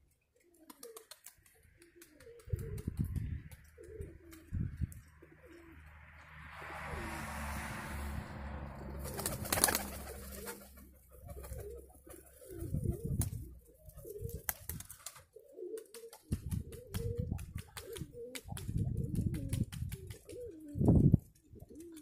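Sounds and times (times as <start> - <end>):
pigeons cooing: 0.4 - 7.9, 8.9 - 22.0.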